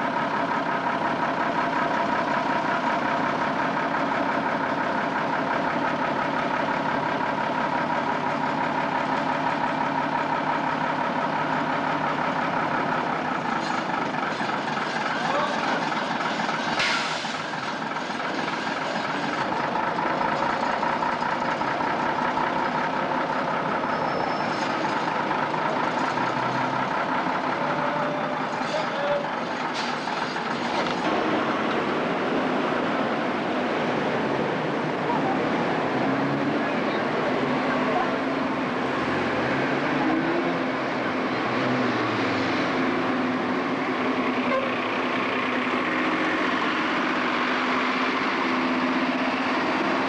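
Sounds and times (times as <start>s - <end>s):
heavy diesel truck engine running: 0.0s - 50.0s.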